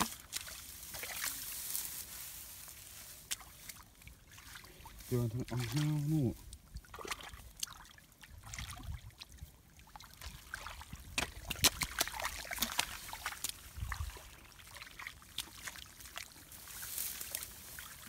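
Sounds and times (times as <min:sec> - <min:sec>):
mud splashing and squelching: 0:00.0 - 0:18.0.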